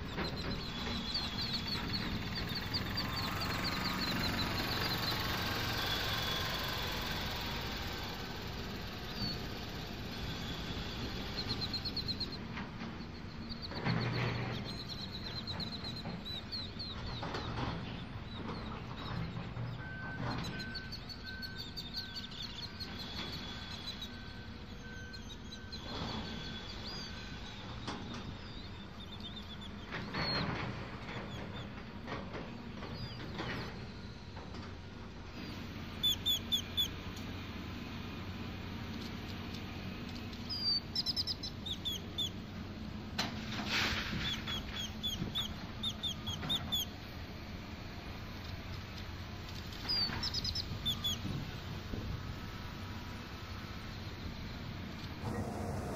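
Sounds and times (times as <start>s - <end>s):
loud bird calls: 0.0s - 55.9s
low hum of machinery: 0.0s - 55.9s
songbirds chirping and trilling: 0.0s - 55.9s.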